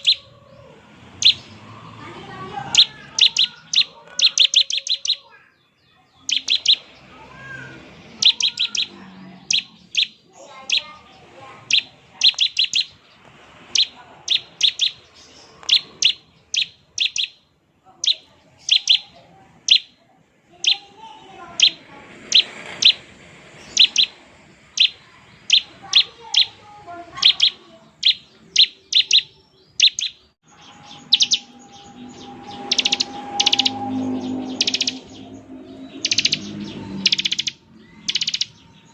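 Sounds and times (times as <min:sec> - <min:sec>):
prinia calling sharp high notes: 0:00.0 - 0:00.4, 0:01.1 - 0:05.4, 0:06.1 - 0:13.0, 0:13.7 - 0:38.9.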